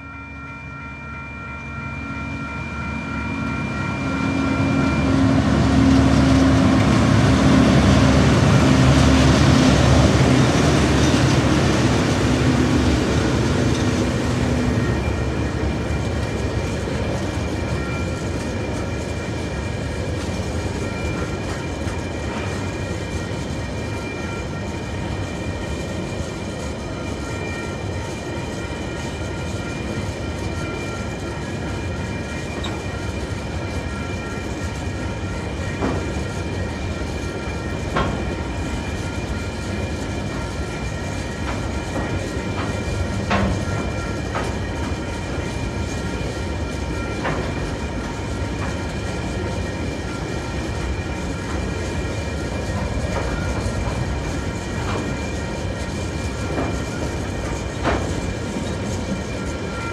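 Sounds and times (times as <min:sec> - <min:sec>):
high ringing tones: 0:00.0 - 0:59.9
train wheels rumbling on rail: 0:01.6 - 0:59.9.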